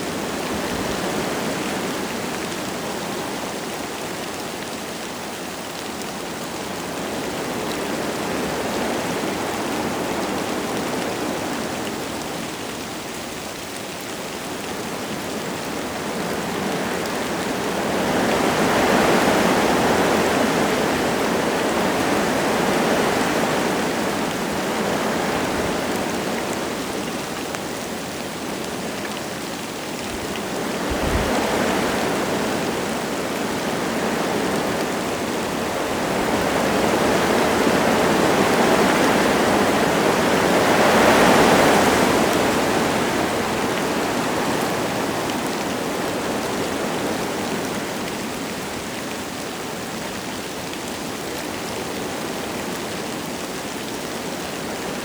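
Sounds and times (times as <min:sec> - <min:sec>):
light rain: 0:00.0 - 0:55.0
wind gusting through trees: 0:00.0 - 0:55.0.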